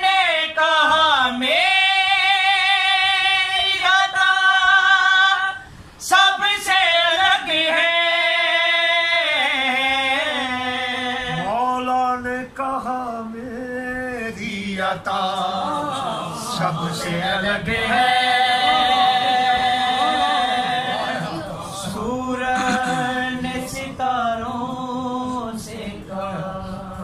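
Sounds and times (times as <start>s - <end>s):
man singing unaccompanied: 0.0s - 27.0s.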